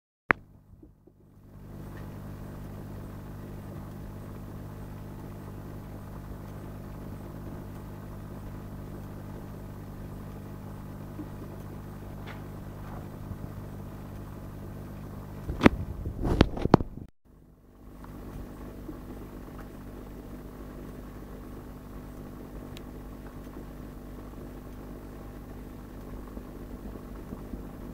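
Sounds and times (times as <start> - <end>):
aquarium pump humming: 0.3 - 27.9.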